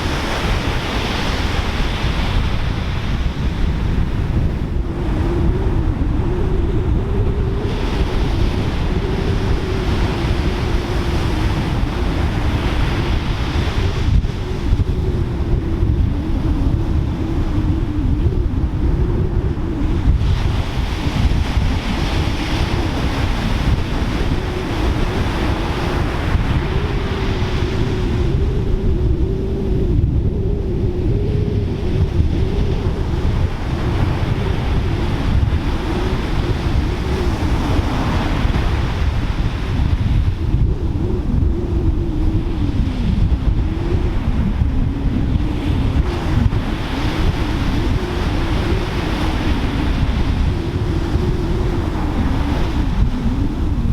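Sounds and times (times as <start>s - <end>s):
wavering low hum: 0.0s - 53.9s
wind rumble on microphone: 0.0s - 53.9s.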